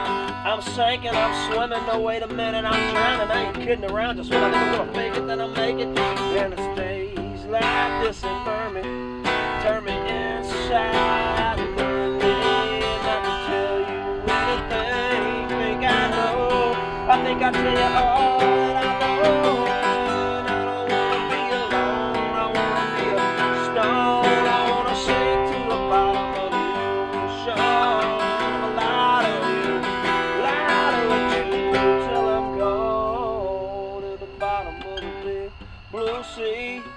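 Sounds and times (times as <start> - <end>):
acoustic guitars strumming: 0.0 - 36.9.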